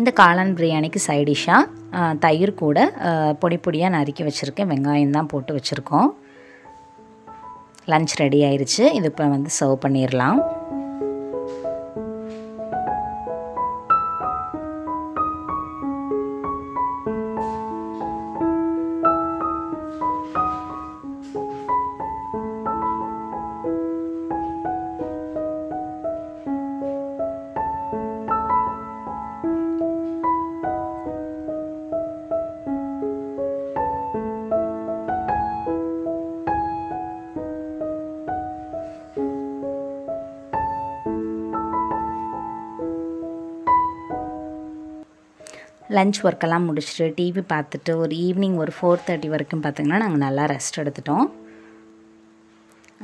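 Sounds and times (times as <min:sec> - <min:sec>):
solo piano melody: 0:00.0 - 0:53.0.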